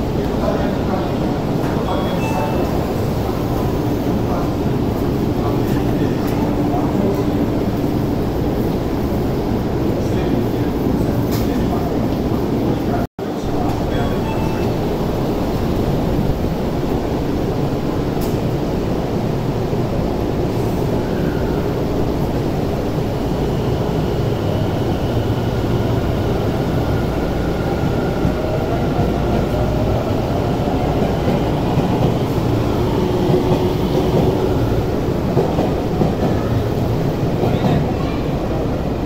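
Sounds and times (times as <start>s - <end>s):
electric train rumbling: 0.0s - 39.0s.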